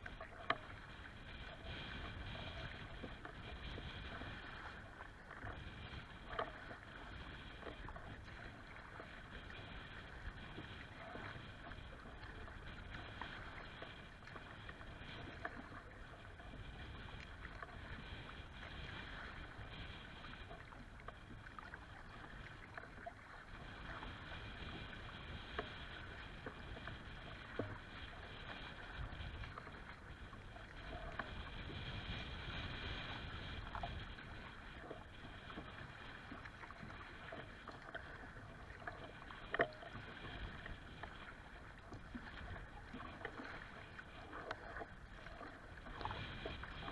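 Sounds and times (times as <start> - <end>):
waves slapping against plastic hull: 0.0 - 46.9.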